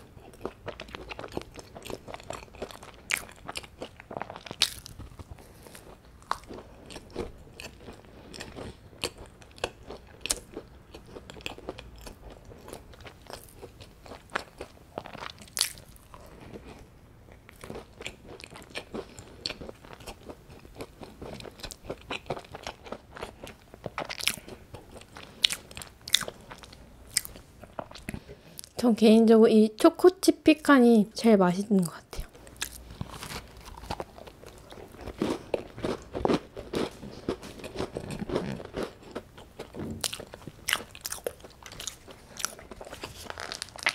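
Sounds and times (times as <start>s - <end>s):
scone being chewed: 0.0s - 28.8s, 32.2s - 43.9s.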